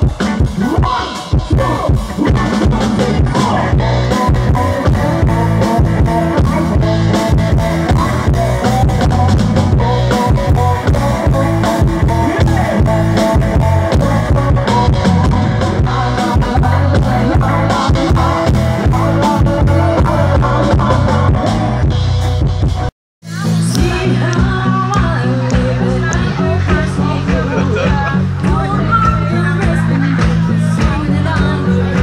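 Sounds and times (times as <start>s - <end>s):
guitar: 0.0s - 32.0s
heavy bass: 0.0s - 32.0s
live band music: 0.0s - 32.0s
steady drum beat: 0.0s - 32.0s.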